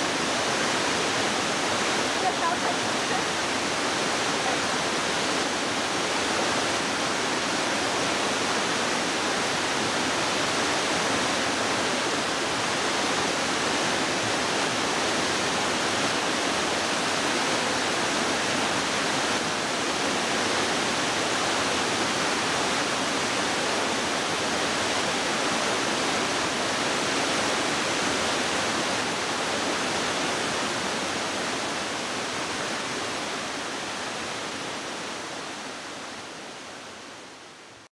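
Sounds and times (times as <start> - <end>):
waterfall rushing over rocks: 0.0 - 37.9.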